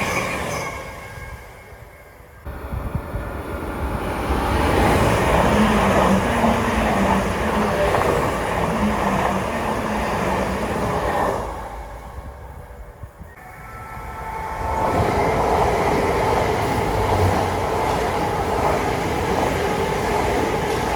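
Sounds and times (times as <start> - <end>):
train wheels on rails: 2.5 - 13.4, 14.3 - 20.9.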